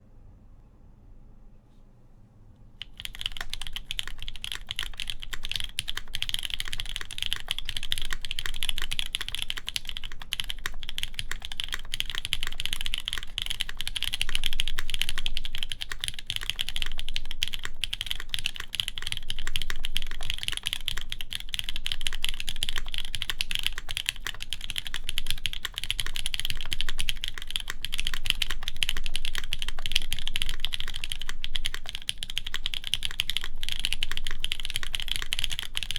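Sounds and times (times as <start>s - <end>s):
typing on mechanical keyboard: 2.8s - 35.9s.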